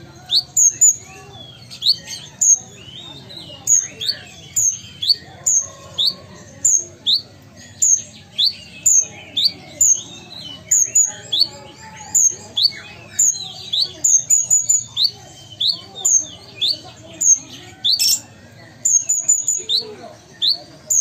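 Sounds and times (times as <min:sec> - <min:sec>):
bird high sharp chirps: 0:00.2 - 0:21.0.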